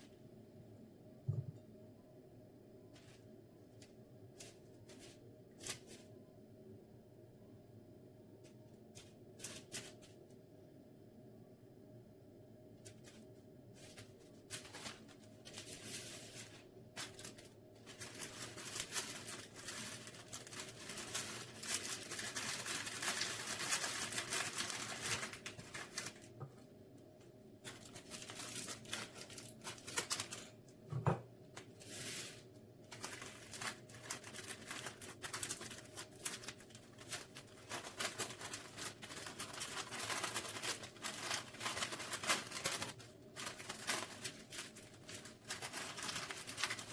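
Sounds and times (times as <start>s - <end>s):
faint steady hum: 0.0s - 46.9s
rustling and scraping of handling: 2.8s - 6.3s, 8.3s - 10.4s, 12.7s - 46.9s.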